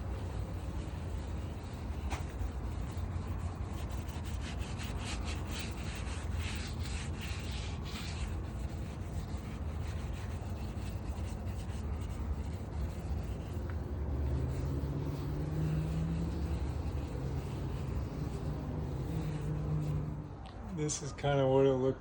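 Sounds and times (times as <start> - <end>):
scratchy rubbing on car roof: 0.0 - 20.4
steady low rumble: 0.0 - 21.4.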